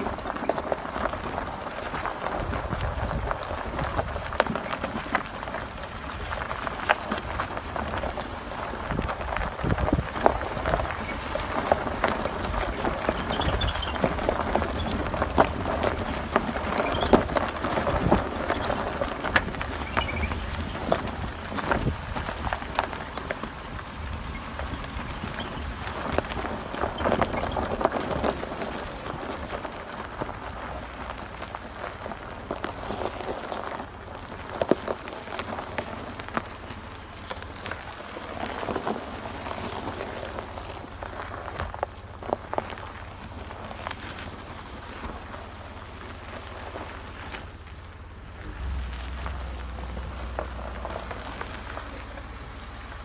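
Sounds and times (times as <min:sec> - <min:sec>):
tyres crunching over gravel: 0:00.0 - 0:53.0.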